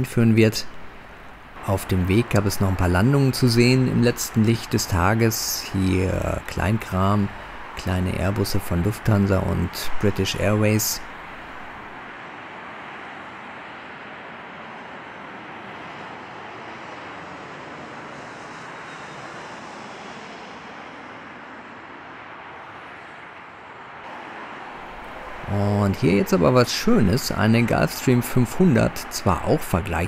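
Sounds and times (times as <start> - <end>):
distant jet engines roaring: 0.0 - 30.0.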